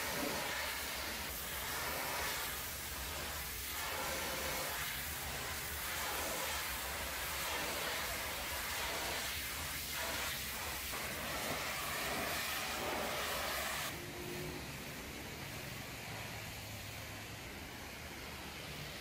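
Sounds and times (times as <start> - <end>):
pressure washer jet hissing on metal: 0.0 - 19.0.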